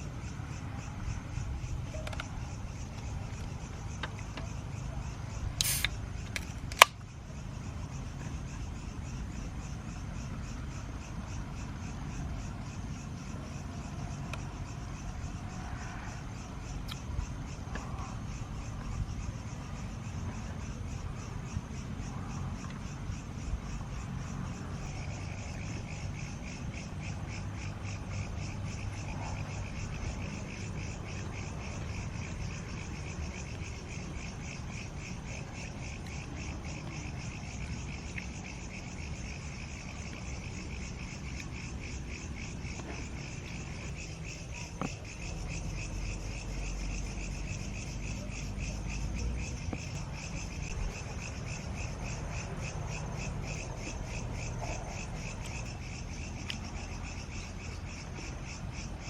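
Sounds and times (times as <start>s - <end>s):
frogs chirping: 0.0s - 59.0s
insects chirping: 0.0s - 59.0s.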